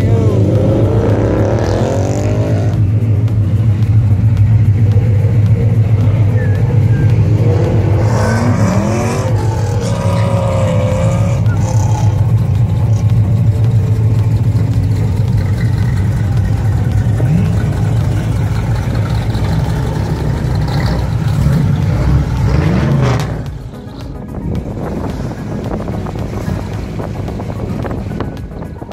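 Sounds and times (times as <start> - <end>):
car engine idling: 0.0 - 28.9
people talking: 0.0 - 28.9.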